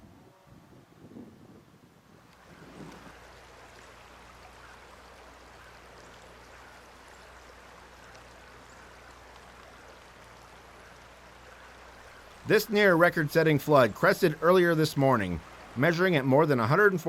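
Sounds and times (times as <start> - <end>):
river floodwater flowing: 2.2 - 17.0.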